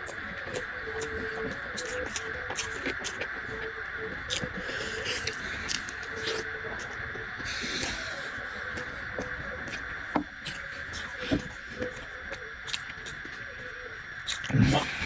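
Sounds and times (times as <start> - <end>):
person chewing: 0.0 - 3.3, 4.0 - 13.3, 14.2 - 15.0
steady high hum: 0.0 - 15.0.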